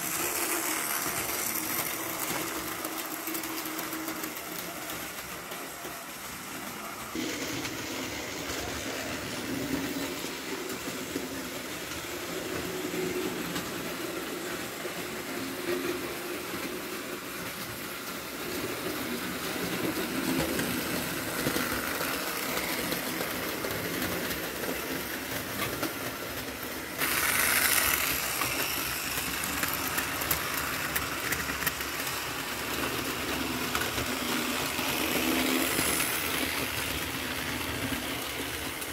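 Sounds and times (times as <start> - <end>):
model train motor humming: 0.0 - 38.9
wagons rolling over track: 0.0 - 38.9.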